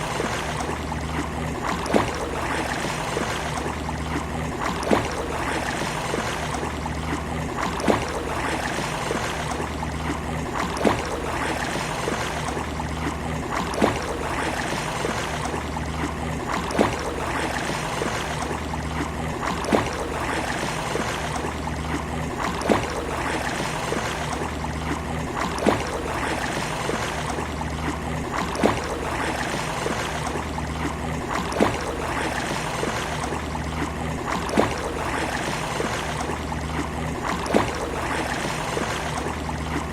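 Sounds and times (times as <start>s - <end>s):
sea waves washing on beach: 0.0s - 39.9s
sharp repeating splash: 0.0s - 39.9s.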